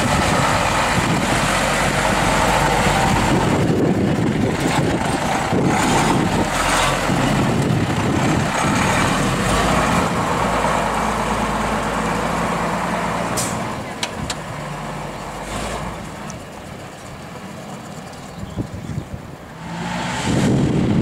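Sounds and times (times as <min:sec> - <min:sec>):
diesel engine running at low revs: 0:00.0 - 0:21.0.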